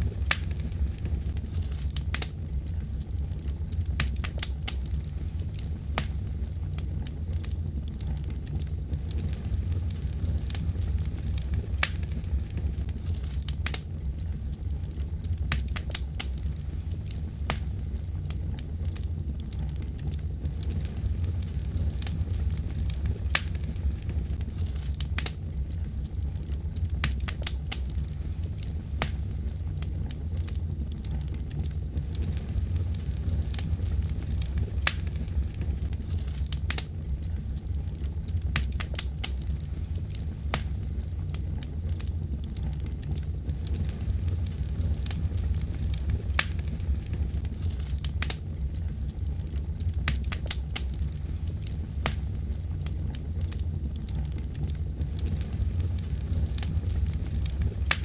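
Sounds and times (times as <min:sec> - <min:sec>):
fire pops and snaps: 0:00.0 - 0:58.0
wood fire rumbling: 0:00.0 - 0:58.0.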